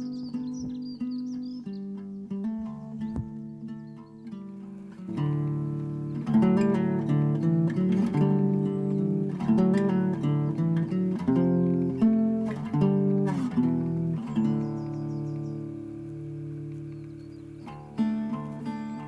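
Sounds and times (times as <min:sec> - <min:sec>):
strummed acoustic guitar chords: 0:00.0 - 0:19.0.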